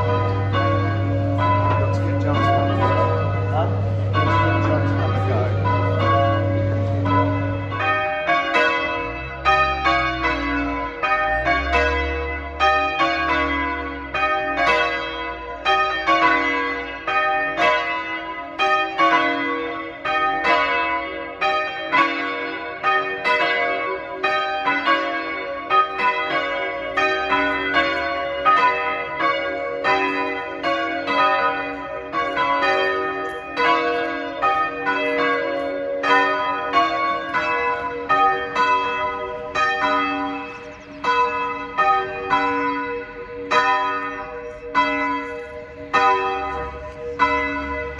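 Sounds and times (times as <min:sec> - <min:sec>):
church bells ringing: 0:00.0 - 0:47.9.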